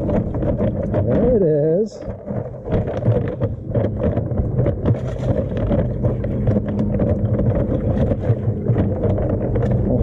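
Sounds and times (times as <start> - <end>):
low machine hum: 0.0 - 10.0
water splashing and sloshing: 0.0 - 10.0.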